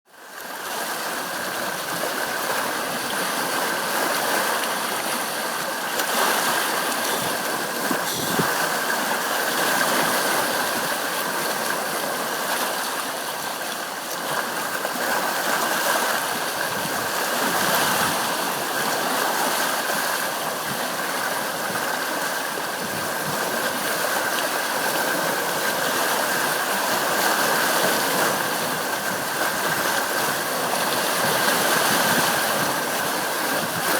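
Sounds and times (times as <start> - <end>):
sea waves washing on shore: 0.1 - 33.9.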